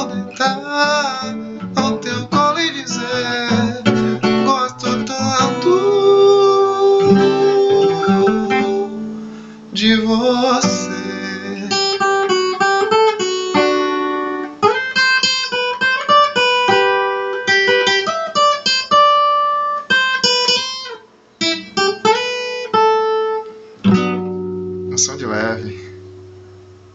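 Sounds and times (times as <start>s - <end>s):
solo acoustic guitar: 0.0s - 26.9s.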